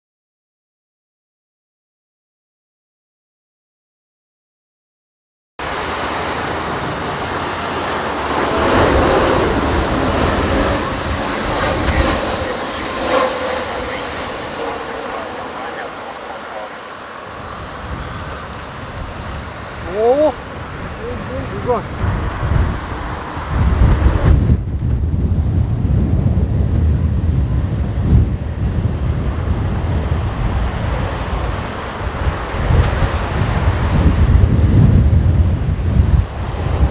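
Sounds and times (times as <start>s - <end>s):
jet engines rushing: 5.6s - 36.9s
wind buffeting microphone: 5.6s - 36.9s.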